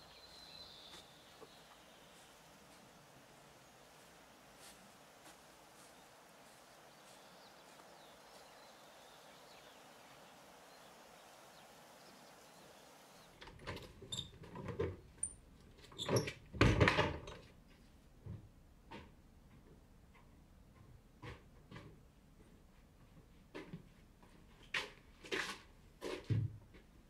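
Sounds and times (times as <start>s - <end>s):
faint outdoor ambience: 0.0s - 27.0s.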